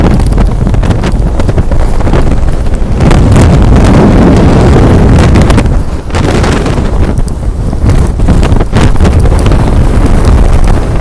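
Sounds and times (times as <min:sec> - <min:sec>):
gale wind buffeting microphone: 0:00.0 - 0:11.0.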